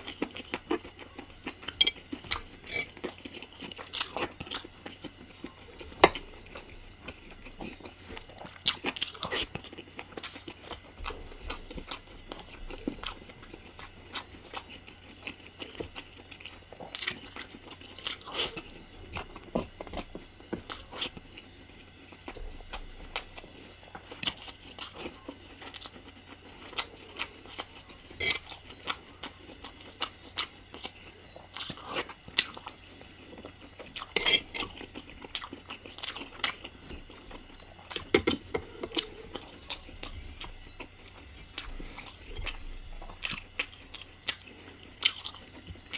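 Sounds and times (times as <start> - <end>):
chewing and biting food: 0.0 - 45.9.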